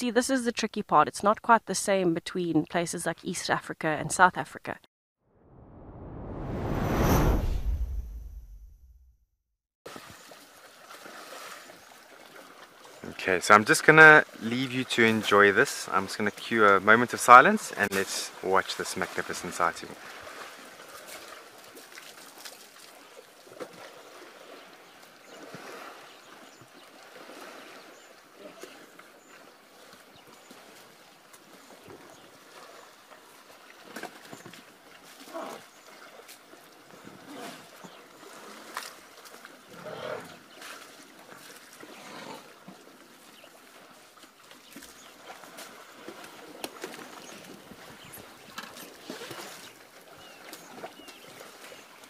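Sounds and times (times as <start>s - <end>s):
elephants sloshing in mud: 9.9s - 52.0s.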